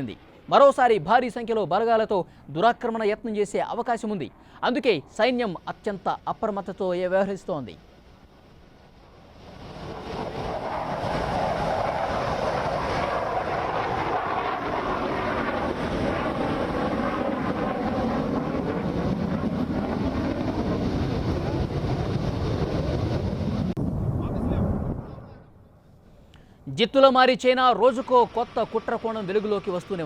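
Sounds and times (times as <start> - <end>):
jet engine roar: 0.0 - 25.8, 27.2 - 30.0.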